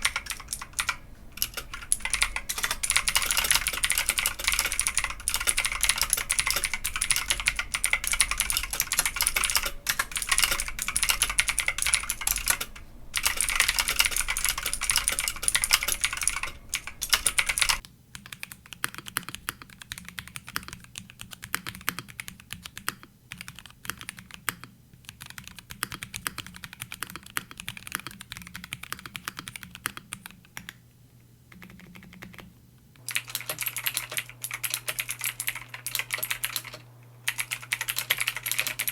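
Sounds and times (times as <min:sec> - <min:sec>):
fast typing on mechanical keyboard: 0:00.0 - 0:30.8, 0:31.5 - 0:32.5, 0:33.1 - 0:38.9.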